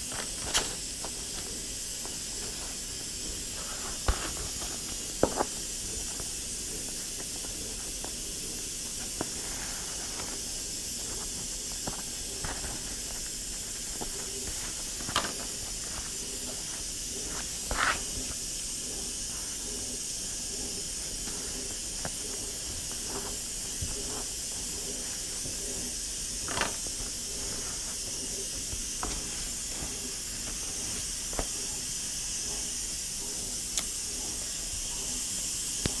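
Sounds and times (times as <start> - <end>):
pressure cooker venting steam: 0.0 - 36.0.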